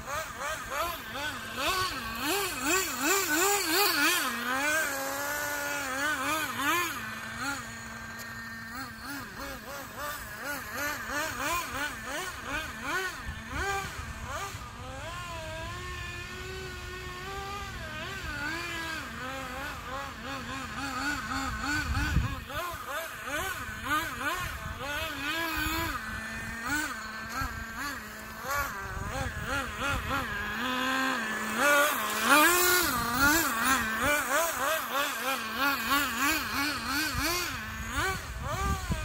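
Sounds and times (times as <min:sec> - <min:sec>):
rc car engine revving: 0:00.0 - 0:39.0.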